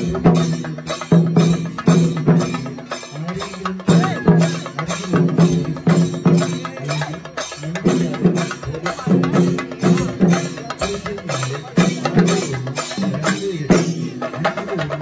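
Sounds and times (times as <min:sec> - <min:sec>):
rapid ensemble drumming: 0:00.0 - 0:15.0.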